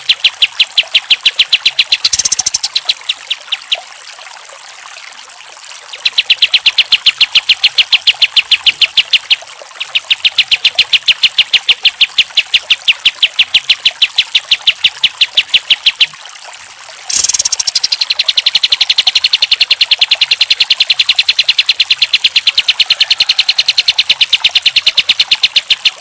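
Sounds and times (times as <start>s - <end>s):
bird singing rapid repeated notes: 0.0s - 3.8s, 5.9s - 16.2s, 17.1s - 26.0s.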